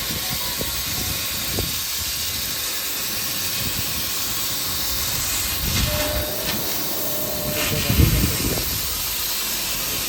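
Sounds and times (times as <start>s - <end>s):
laser cutting machine hissing: 0.0s - 10.0s.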